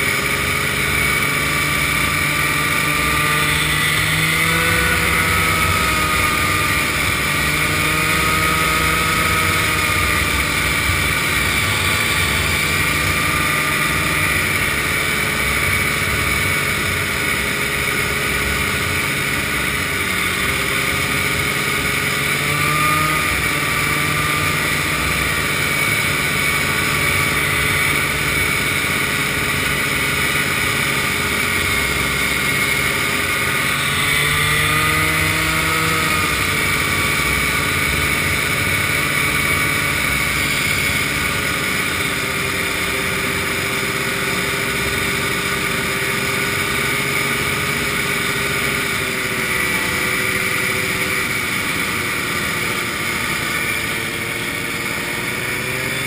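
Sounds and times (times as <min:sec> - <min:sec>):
snowmobile engine running: 0:00.0 - 0:56.0
steady rushing noise: 0:00.0 - 0:56.0.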